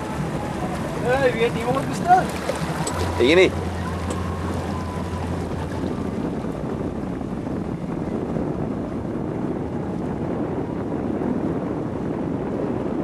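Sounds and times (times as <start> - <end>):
water from moving boat: 0.0 - 13.0
wind on microphone: 0.0 - 13.0.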